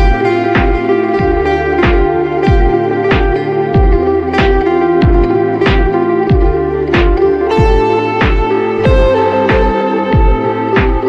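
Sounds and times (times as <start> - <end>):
deep drum beat: 0.0 - 11.0
sustained instrumental notes: 0.0 - 11.0.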